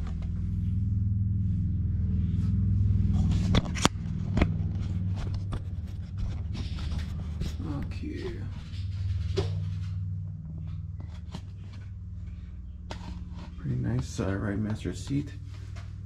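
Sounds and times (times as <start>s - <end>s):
steady low rumble: 0.0s - 16.0s
rustling and handling noise: 3.1s - 16.0s.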